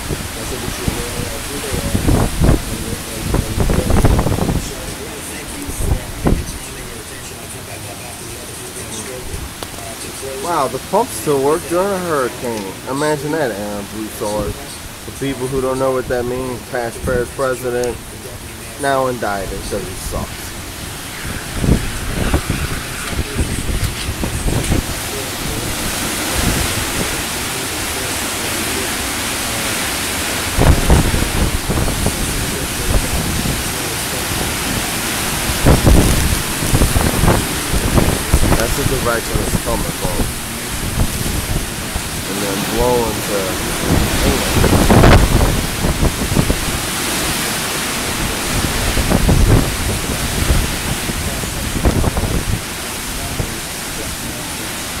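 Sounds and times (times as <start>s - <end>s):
wind and heavy rain: 0.0s - 55.0s
wind buffeting microphone: 0.0s - 55.0s.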